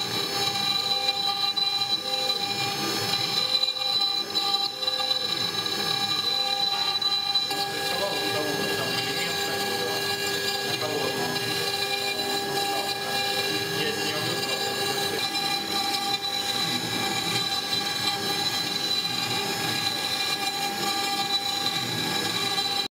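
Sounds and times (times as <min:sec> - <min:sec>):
end mill grinding wet stone: 0:00.0 - 0:22.9
spindle high whine: 0:00.0 - 0:22.9.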